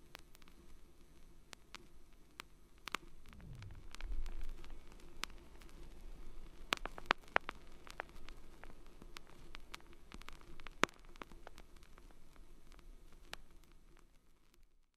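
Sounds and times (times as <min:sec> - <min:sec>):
faint steady hum: 0:00.0 - 0:14.8
irregular clicks and crackles: 0:00.0 - 0:14.9.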